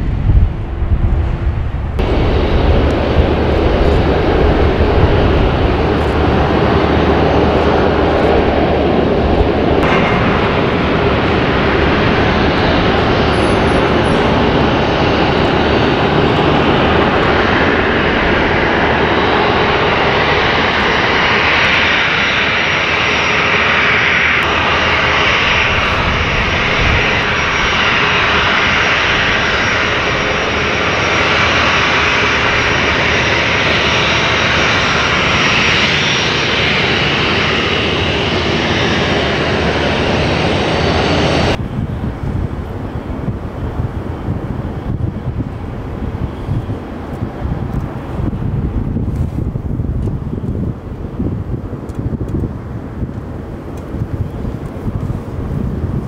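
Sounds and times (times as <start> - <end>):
jet engines running loud: 0.0 - 56.0.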